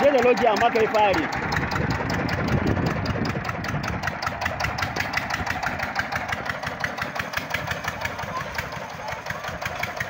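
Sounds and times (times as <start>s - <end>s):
tractor engine chugging: 0.0s - 10.0s.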